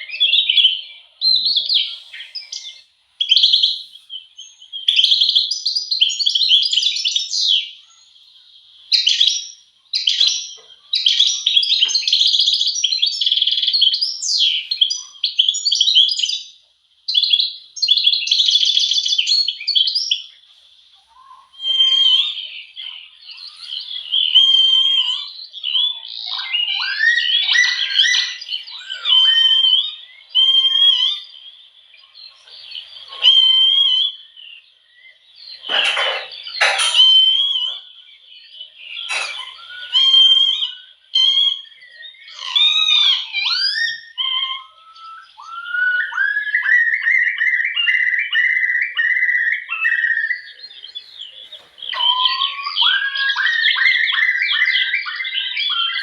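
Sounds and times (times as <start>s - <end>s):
lower whistled bird notes: 0.0s - 8.1s, 8.9s - 56.0s
songbirds chirping and singing: 0.0s - 56.0s.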